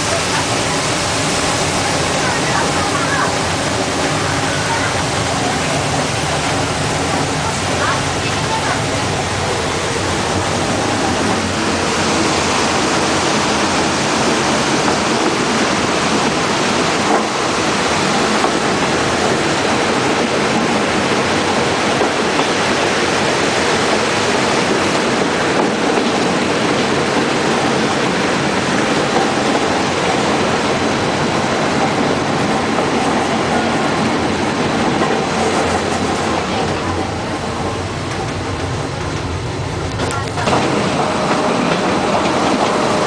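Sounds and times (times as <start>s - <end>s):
rushing stream and waterfall: 0.0s - 38.6s
train running along track: 0.0s - 43.0s.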